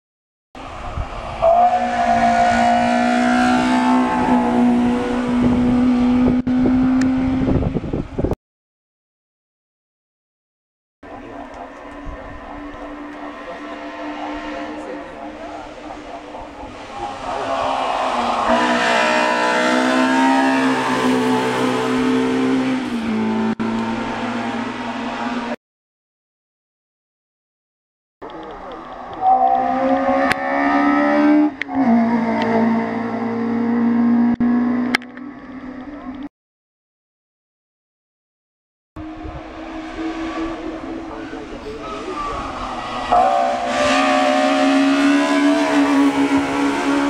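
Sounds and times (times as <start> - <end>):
race car engine at high revs: 0.6 - 8.3, 11.0 - 25.6, 28.3 - 36.3, 39.0 - 47.0.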